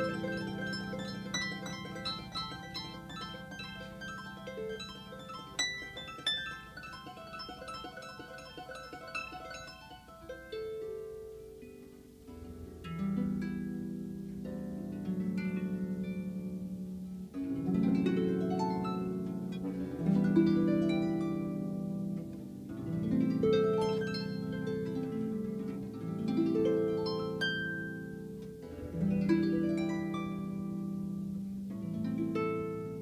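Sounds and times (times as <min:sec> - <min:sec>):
harp arpeggiated chords: 0:00.0 - 0:33.0.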